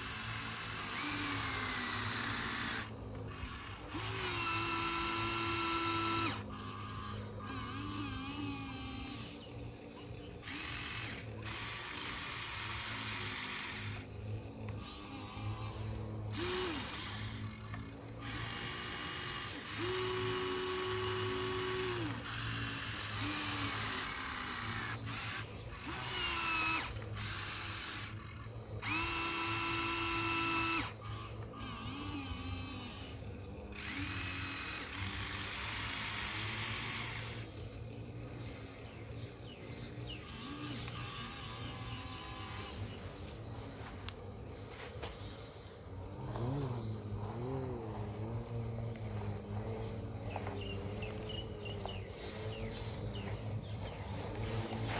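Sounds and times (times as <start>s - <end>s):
small electric motors whining: 0.0s - 54.9s.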